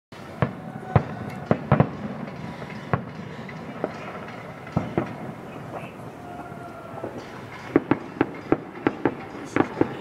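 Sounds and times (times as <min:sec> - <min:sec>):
distant fireworks bangs: 0:00.2 - 0:10.0.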